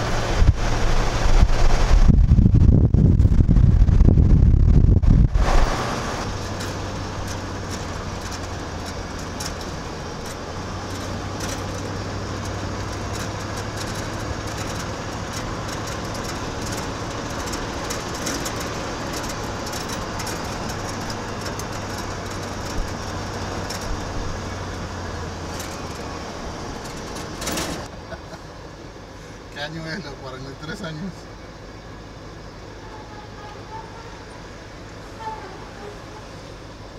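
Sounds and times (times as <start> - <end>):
road noise: 0.0 - 36.9
truck engine drone: 0.0 - 36.9.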